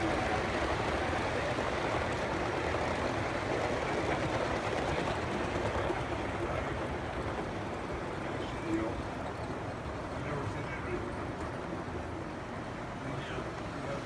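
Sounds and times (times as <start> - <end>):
model trains rumbling hum: 0.0 - 14.0.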